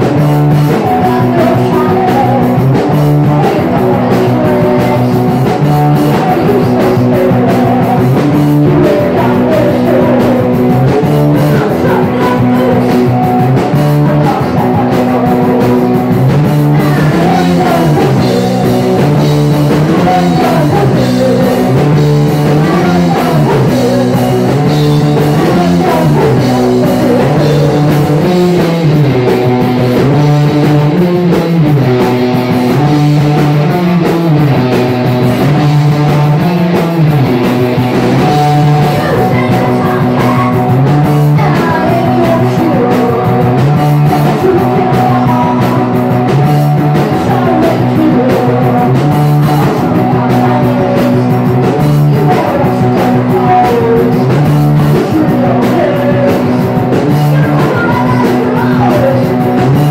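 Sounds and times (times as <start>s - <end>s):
distorted electric guitars: 0.0s - 59.9s
driving drum kit: 0.0s - 59.9s.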